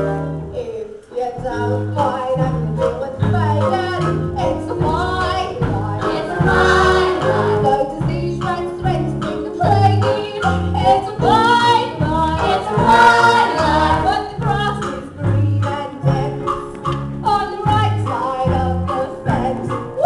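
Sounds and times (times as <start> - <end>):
band accompaniment: 1.4 - 20.0.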